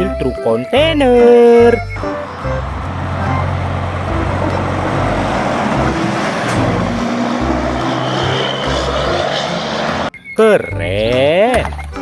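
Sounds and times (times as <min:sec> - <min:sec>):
truck engine running: 0:00.0 - 0:10.2.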